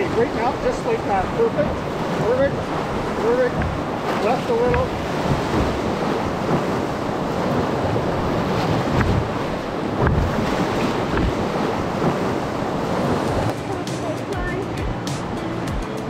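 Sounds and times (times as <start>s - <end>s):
river rapid rushing and splashing: 0.0s - 16.0s
wind buffeting microphone: 0.0s - 16.0s.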